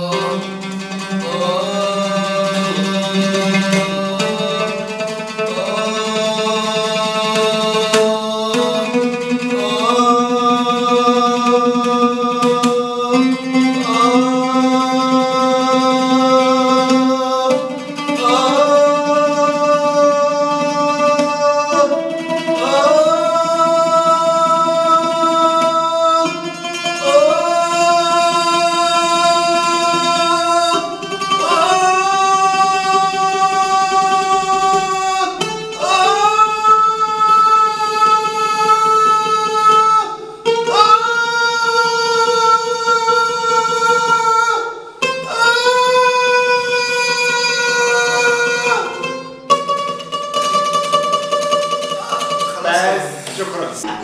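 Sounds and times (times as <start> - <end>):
man singing sustained notes: 0.0 - 49.0.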